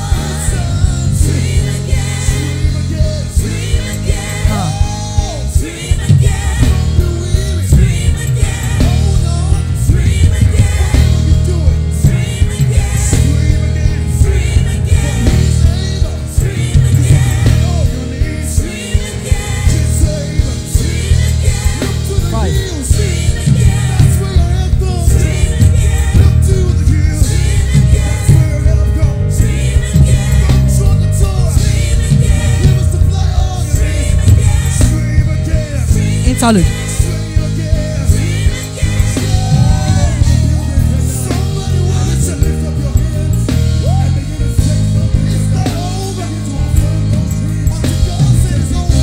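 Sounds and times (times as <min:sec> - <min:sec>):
drum kit with cymbals: 0:00.0 - 0:49.0
electric bass: 0:00.0 - 0:49.0.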